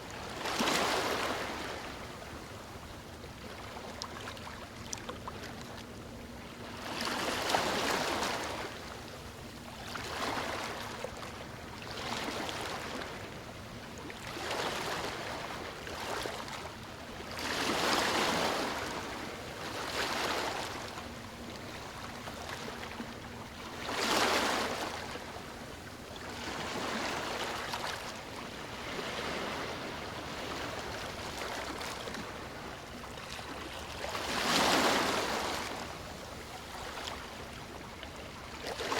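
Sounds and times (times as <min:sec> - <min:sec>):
sea waves breaking on shore: 0:00.0 - 0:02.8, 0:03.4 - 0:38.9.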